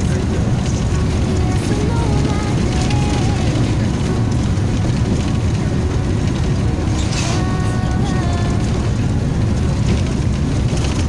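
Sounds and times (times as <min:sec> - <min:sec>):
bus road and engine rumble: 0:00.0 - 0:11.0
faint music: 0:00.0 - 0:11.0.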